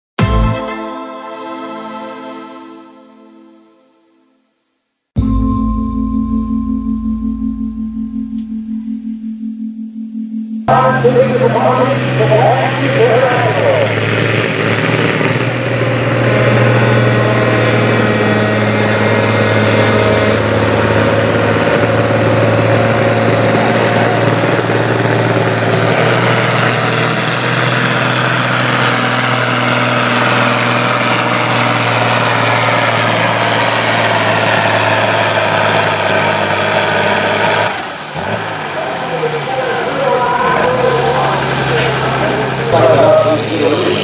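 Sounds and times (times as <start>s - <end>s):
tractor diesel engine running: 5.2s - 44.0s.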